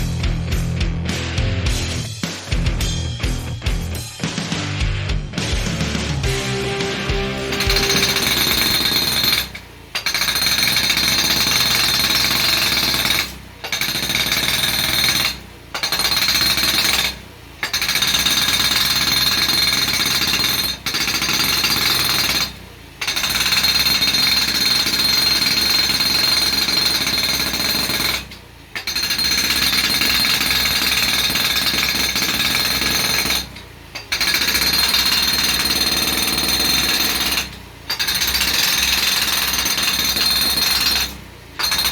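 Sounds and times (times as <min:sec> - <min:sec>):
hydraulic breaker hammering gravel: 0:06.3 - 0:41.9.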